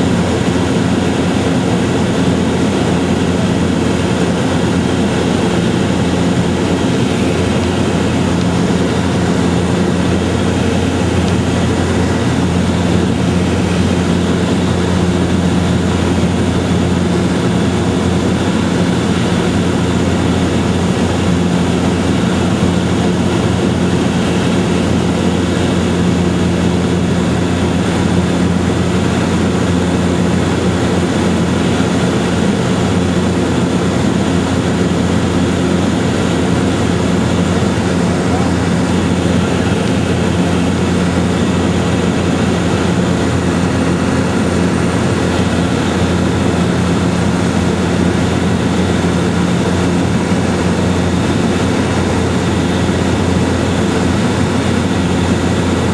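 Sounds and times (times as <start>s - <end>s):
loud mechanical drone: 0.0s - 55.9s.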